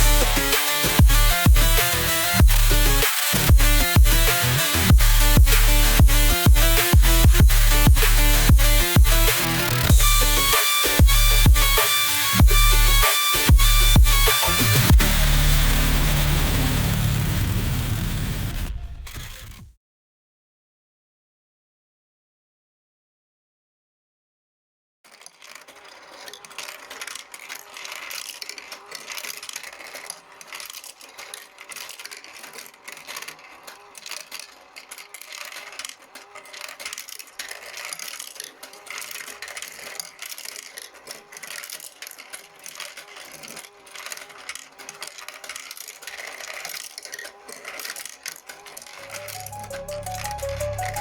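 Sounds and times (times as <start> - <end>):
balls rattling along tracks: 0.0 - 17.3, 25.1 - 51.0.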